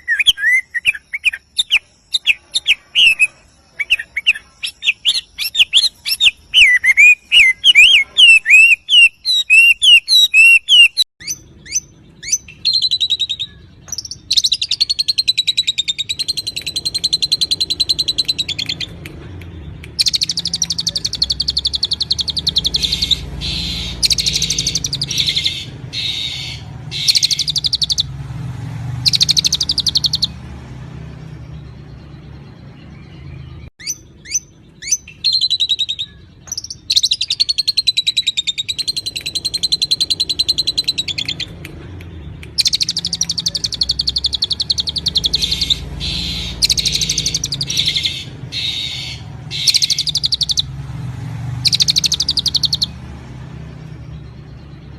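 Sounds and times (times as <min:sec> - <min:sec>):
buzzy bird trills: 0:00.0 - 0:28.2, 0:28.9 - 0:30.4, 0:31.3 - 0:50.8, 0:51.6 - 0:53.0
warbled bird song: 0:00.0 - 0:54.9.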